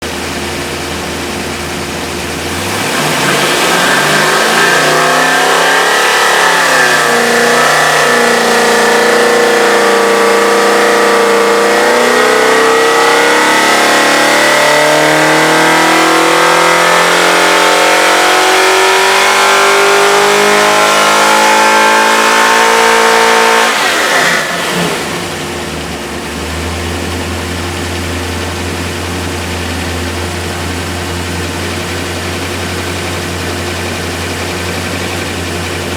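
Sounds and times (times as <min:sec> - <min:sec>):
engine idling and revving: 0:00.0 - 0:35.9.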